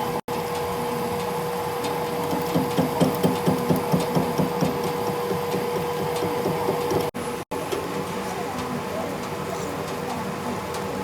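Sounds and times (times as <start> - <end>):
workshop machine humming: 0.0 - 11.0.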